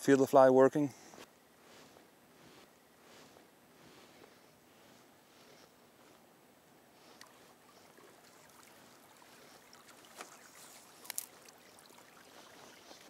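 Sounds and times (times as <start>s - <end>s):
faint flowing river water: 0.0s - 13.0s.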